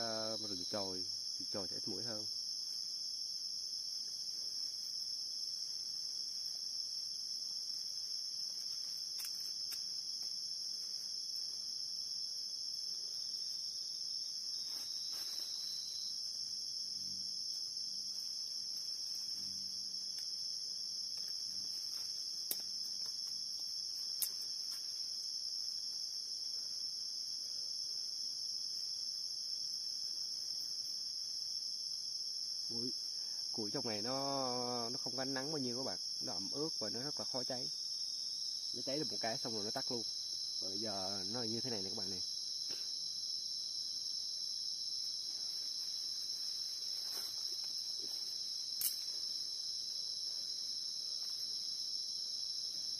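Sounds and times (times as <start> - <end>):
insects trilling: 0.0 - 52.9.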